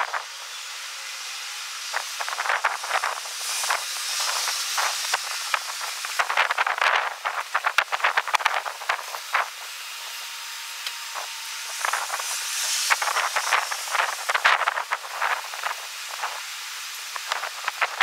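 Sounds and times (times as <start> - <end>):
strong wind on microphone: 0.0 - 0.6, 1.6 - 10.2, 11.0 - 18.0.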